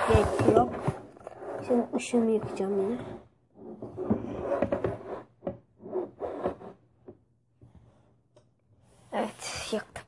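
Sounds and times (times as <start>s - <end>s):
rubbing and scraping handling noise: 0.0s - 8.1s.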